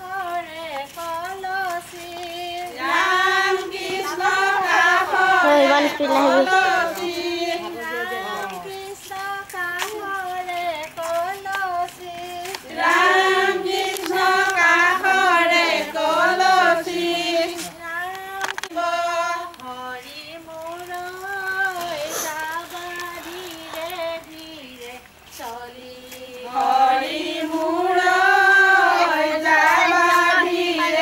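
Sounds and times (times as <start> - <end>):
women singing together: 0.0 - 31.0.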